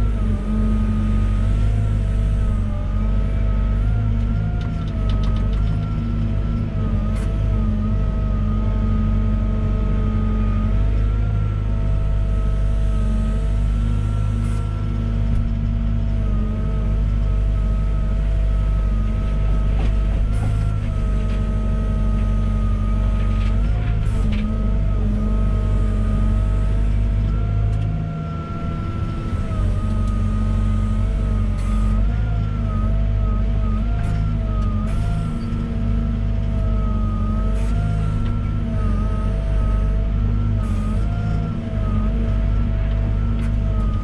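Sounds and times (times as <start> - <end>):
excavator diesel engine running: 0.0 - 44.0
excavator whine: 0.0 - 44.0.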